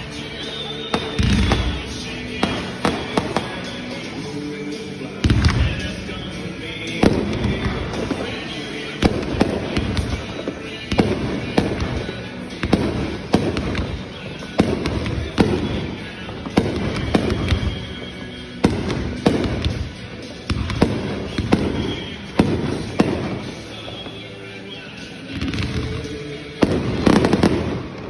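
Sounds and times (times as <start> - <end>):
fireworks bursting with bangs: 0.0 - 28.0
fireworks crackling: 0.0 - 28.0.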